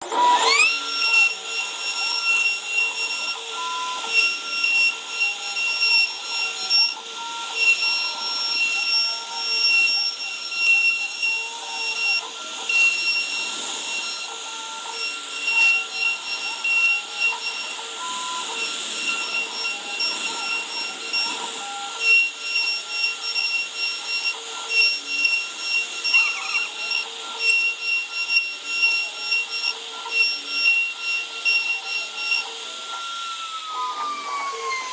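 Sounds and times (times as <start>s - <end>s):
cutter rasping in wood: 0.0s - 34.9s
router spindle whine: 0.0s - 34.9s.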